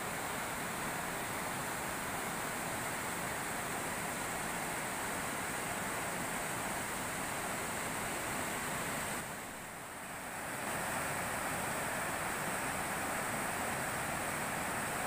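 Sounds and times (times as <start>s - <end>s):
water rushing over a weir: 0.0s - 15.0s.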